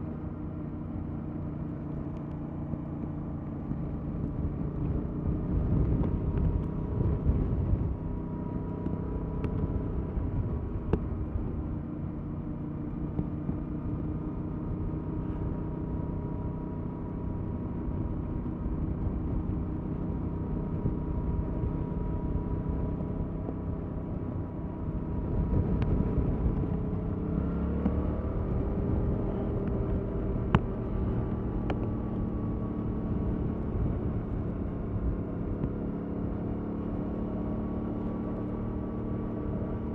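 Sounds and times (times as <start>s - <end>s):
motorcycle engine running: 0.0s - 39.9s
wind rumble on microphone: 1.5s - 39.9s.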